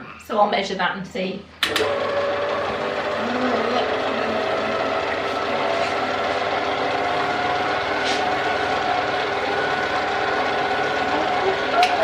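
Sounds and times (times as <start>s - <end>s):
electric mixer motor whine: 1.6s - 12.0s.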